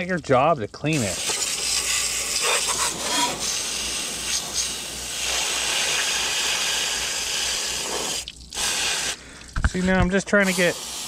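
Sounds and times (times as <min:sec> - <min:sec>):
hose spray hissing on metal: 0:00.9 - 0:11.0.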